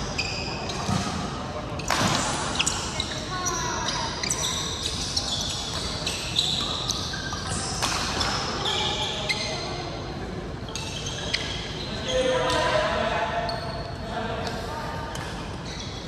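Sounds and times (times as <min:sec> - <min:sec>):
shoes squeaking on court floor: 0:00.0 - 0:10.0, 0:10.6 - 0:16.0.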